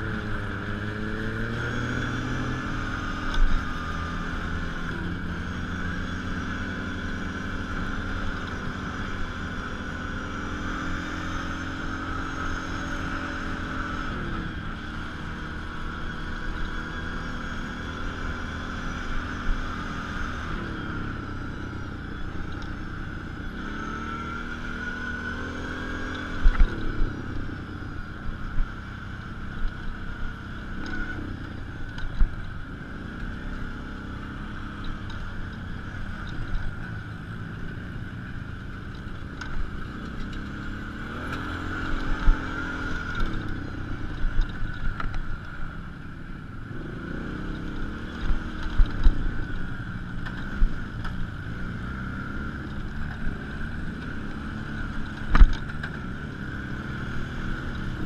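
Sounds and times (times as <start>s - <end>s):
utility vehicle engine revving: 0.0s - 58.0s.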